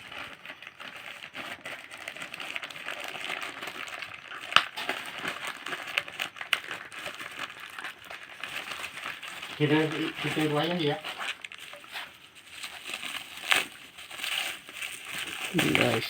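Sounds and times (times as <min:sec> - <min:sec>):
package wrapping crinkling: 0:00.0 - 0:16.0.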